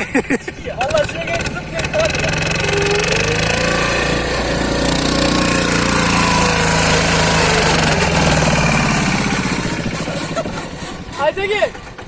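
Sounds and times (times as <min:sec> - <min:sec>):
diesel tractor engine chugging: 0:00.8 - 0:12.0.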